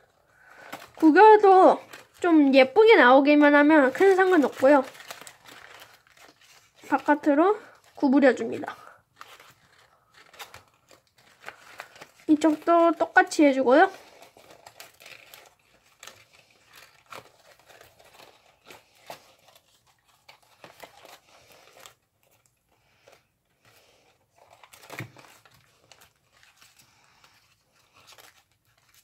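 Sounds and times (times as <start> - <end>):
paper crinkling and rustling: 0.0 - 29.0.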